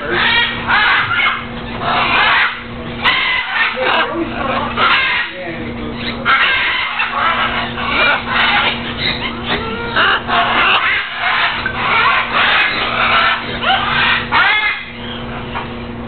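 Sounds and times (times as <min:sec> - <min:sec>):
parrots squawking: 0:00.0 - 0:15.9
steady low hum: 0:00.0 - 0:16.0.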